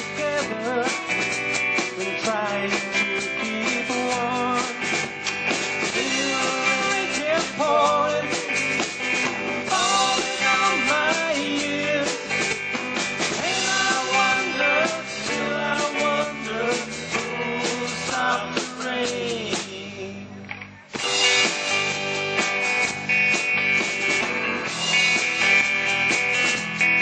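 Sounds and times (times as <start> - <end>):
sliding lead melody: 0.0 - 18.8, 21.0 - 27.0
rock band playing: 0.0 - 19.9, 20.9 - 27.0.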